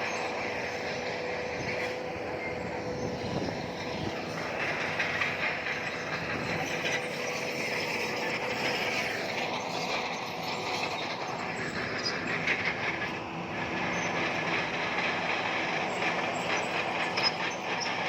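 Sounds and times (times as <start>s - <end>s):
crawler tracks clattering and squealing: 0.0s - 18.0s
mechanical whine: 0.0s - 18.0s.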